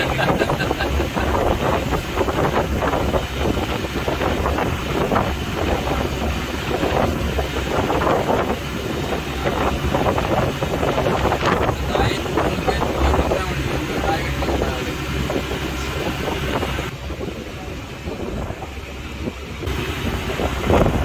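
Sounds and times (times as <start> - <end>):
boat engine rumbling: 0.0 - 21.0
wind buffeting microphone: 0.0 - 21.0.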